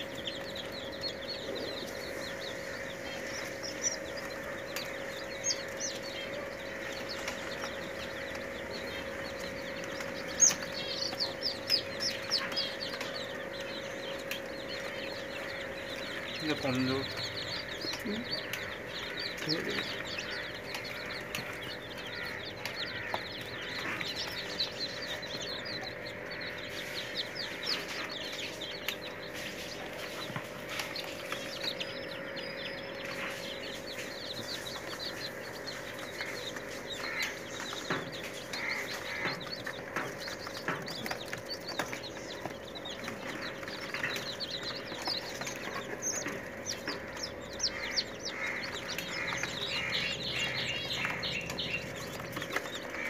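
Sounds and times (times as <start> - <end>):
chicks peeping: 0.0 - 53.0
steady low hum: 0.0 - 53.0.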